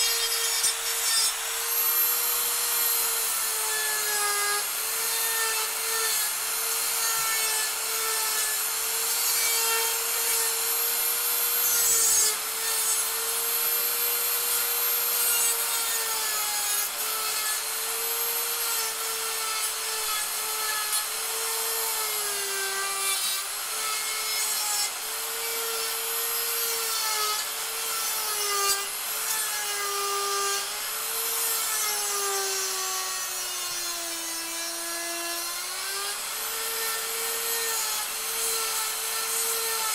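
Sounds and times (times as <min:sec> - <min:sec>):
die grinder whining on wood: 0:00.0 - 0:39.9.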